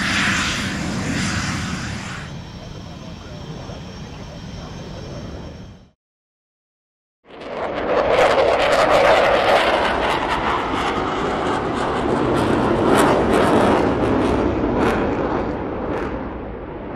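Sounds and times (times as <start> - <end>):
jet engine roar with crackles: 0.0 - 6.0, 7.3 - 16.9.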